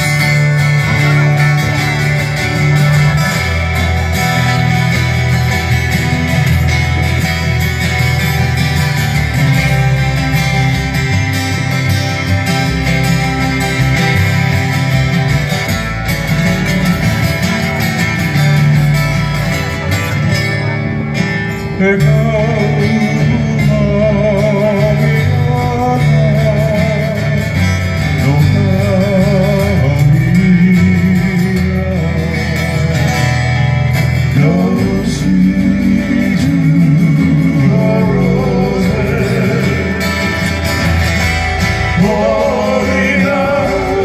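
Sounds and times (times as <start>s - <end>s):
man singing with vibrato: 0.0s - 15.0s, 20.6s - 44.0s
acoustic guitars strummed: 0.0s - 44.0s
electric bass: 0.0s - 44.0s.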